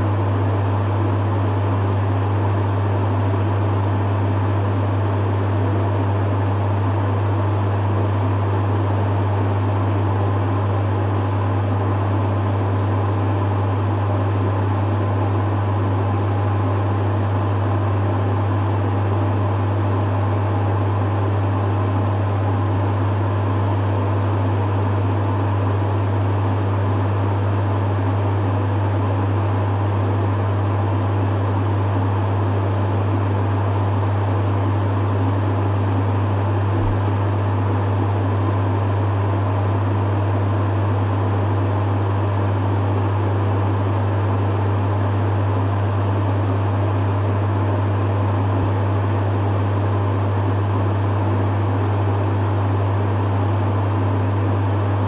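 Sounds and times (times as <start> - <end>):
dehumidifier running: 0.0 - 55.0.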